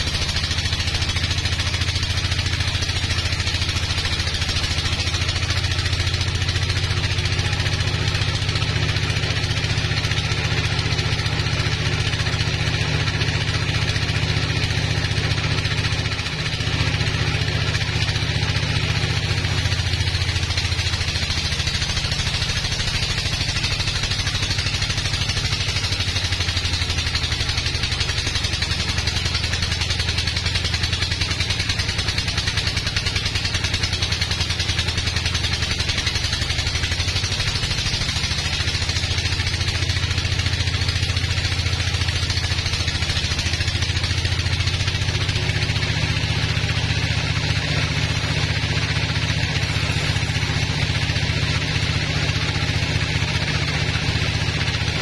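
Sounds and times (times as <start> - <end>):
saw cutting through log: 0.0 - 55.0
sawmill engine running: 0.0 - 55.0.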